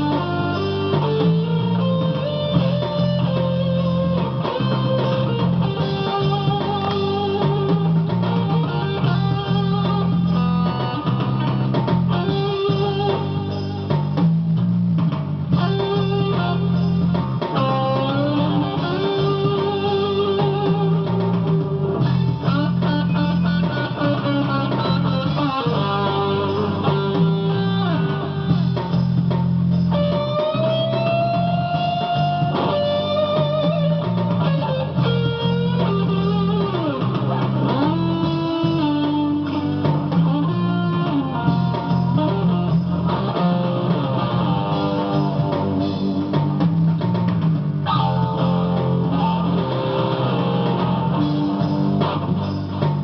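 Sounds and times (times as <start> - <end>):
bass and drums backing: 0.0 - 53.0
electric guitar lead line: 0.0 - 53.0.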